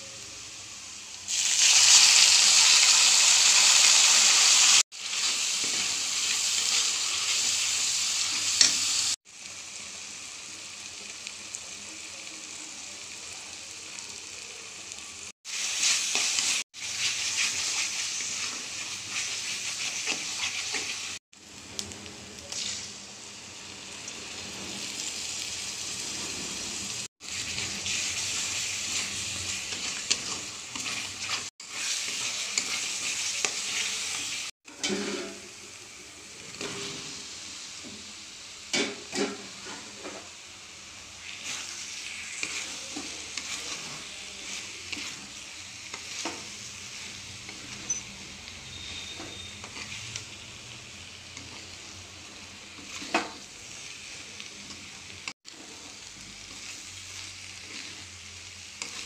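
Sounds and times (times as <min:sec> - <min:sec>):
curry sizzling in a pan: 0:00.0 - 0:59.0.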